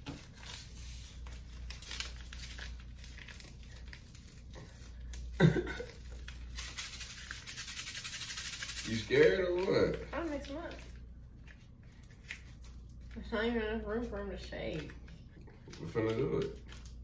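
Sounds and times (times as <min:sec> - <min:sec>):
candy packets tearing and crinkling: 0:00.2 - 0:13.0, 0:15.7 - 0:17.0.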